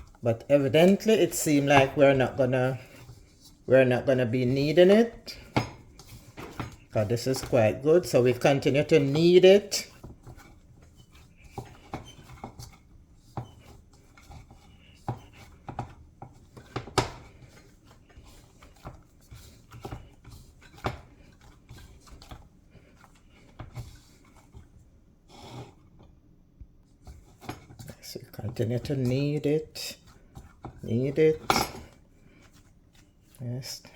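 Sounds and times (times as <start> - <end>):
hands kneading dough: 0.0 - 33.9.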